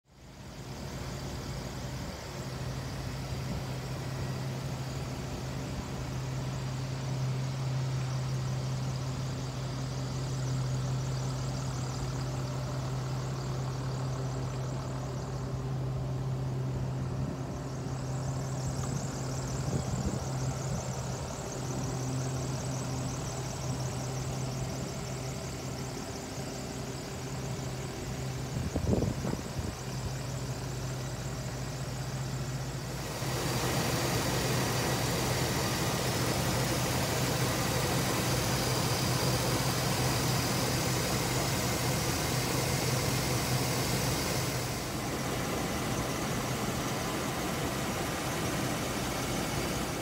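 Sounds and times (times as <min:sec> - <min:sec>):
bus engine idling: 0:00.1 - 0:50.0.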